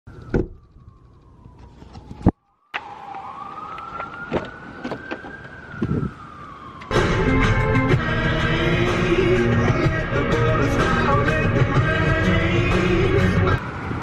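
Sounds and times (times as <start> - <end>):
siren wailing: 0.1 - 13.6.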